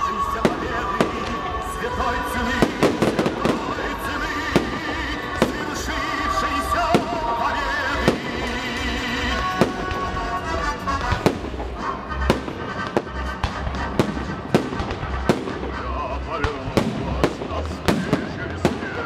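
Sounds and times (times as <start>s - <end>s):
fireworks bursting with sharp bangs: 0.0s - 19.0s
music playing: 0.0s - 19.0s.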